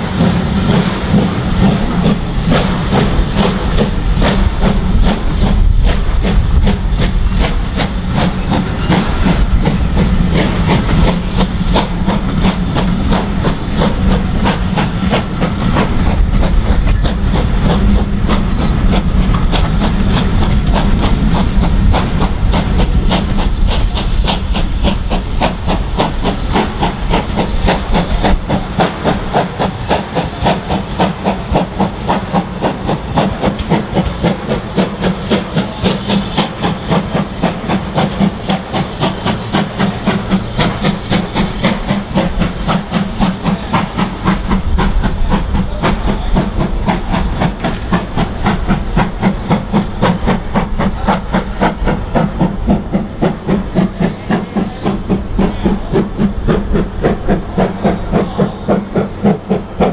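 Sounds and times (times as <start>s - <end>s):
rumble of rolling coaches: 0.0s - 59.9s.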